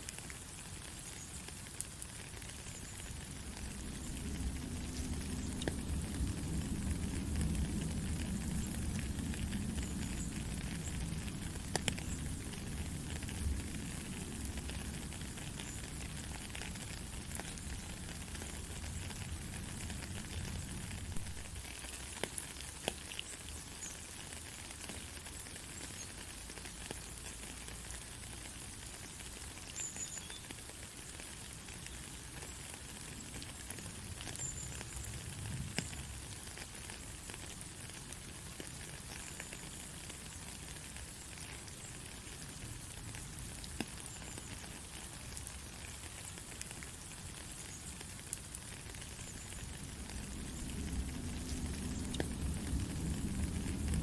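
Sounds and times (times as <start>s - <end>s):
raindrop clicks: 0.0s - 54.0s
steady rain hiss: 0.0s - 54.0s.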